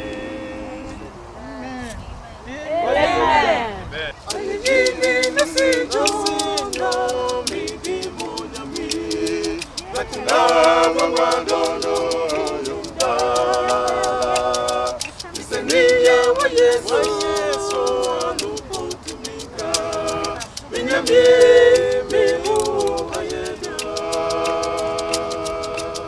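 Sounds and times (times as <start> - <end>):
group singing gospel: 0.0 - 1.4, 2.8 - 26.0
steady percussive beat: 4.3 - 26.0.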